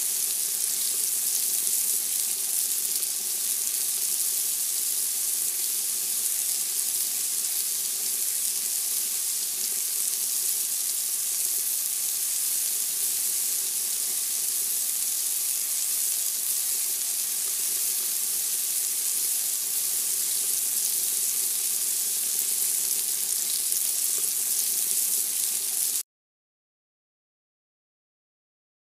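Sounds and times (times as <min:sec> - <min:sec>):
food sizzling on a grill: 0:00.0 - 0:26.0.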